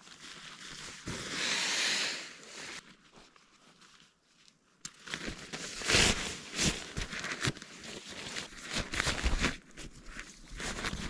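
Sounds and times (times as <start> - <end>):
nylon fabric rustling: 0.0 - 11.0.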